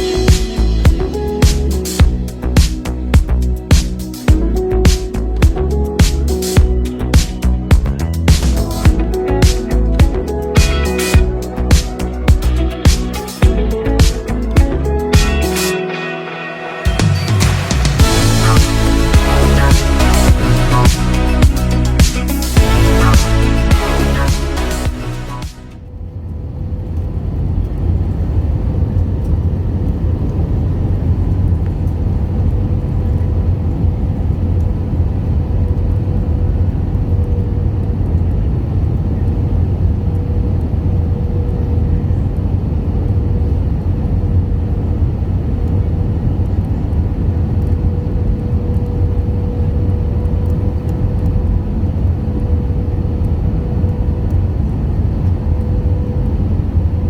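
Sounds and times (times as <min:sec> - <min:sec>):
airliner engine and airflow rumble: 0:00.0 - 0:23.1, 0:25.2 - 0:57.0.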